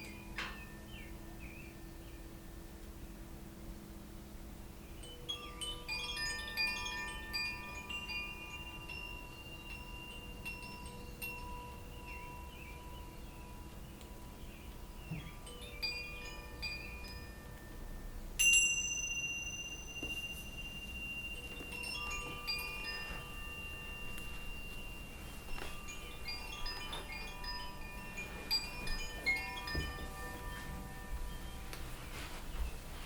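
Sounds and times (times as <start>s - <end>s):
chimes ringing: 4.9s - 33.0s.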